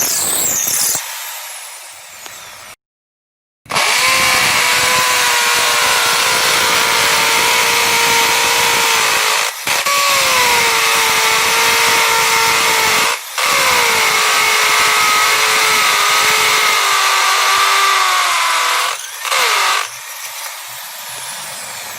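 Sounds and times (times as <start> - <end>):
electric drill motor running: 0.2 - 2.6, 3.7 - 21.9.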